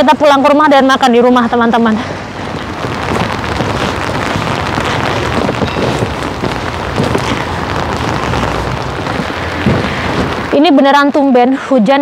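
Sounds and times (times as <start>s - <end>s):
rain on an umbrella: 0.0s - 11.4s
rain on wet paving: 0.0s - 11.4s.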